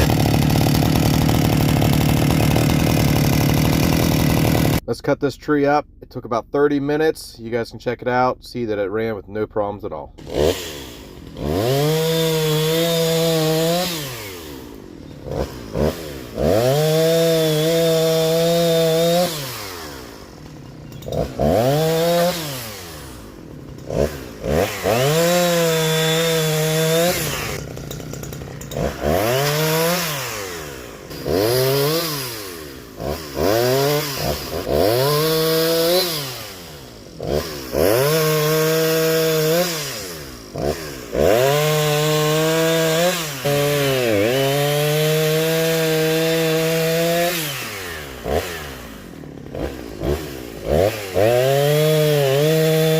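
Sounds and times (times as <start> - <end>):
chainsaw revving and cutting: 0.0 - 4.8, 10.2 - 52.9.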